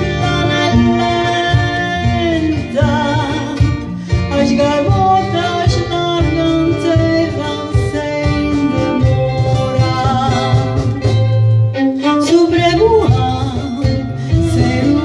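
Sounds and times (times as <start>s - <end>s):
guitar: 0.0s - 15.0s
live acoustic band music: 0.0s - 15.0s.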